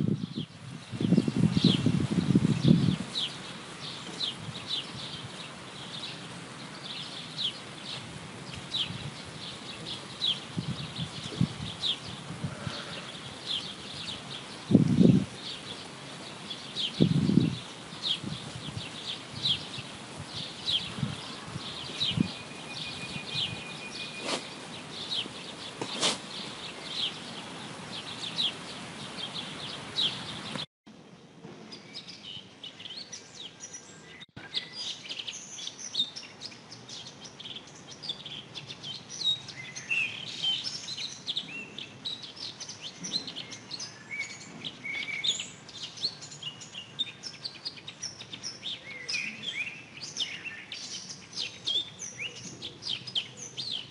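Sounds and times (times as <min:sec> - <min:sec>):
birds singing in chorus: 0:00.0 - 0:30.7, 0:31.5 - 0:53.9
songbirds chirping: 0:00.0 - 0:53.9.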